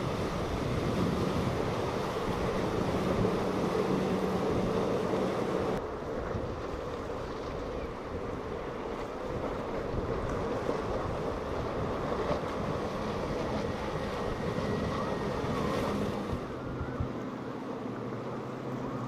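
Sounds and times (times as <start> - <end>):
wind buffeting microphone: 0.0 - 17.2
motorboat engine drone: 0.0 - 19.0
water spray and surf: 0.0 - 19.0.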